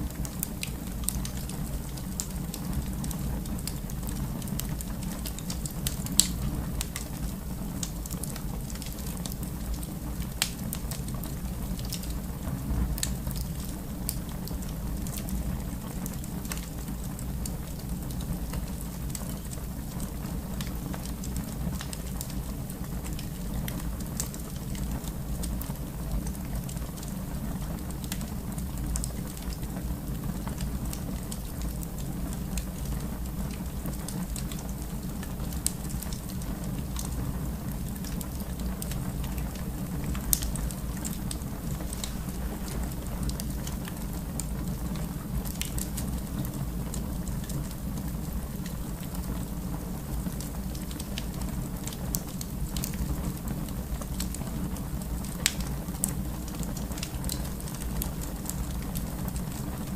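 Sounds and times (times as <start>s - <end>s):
fire crackling: 0.0s - 59.9s
fire popping: 0.0s - 59.9s
fire rumbling: 0.0s - 59.9s.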